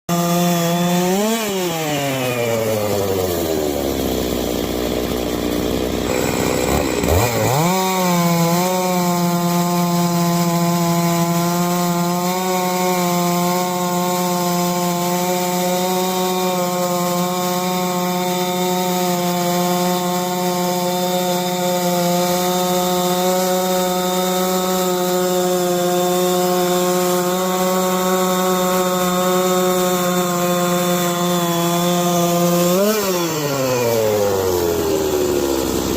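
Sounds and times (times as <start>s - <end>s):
chainsaw cutting wood: 0.1s - 35.9s.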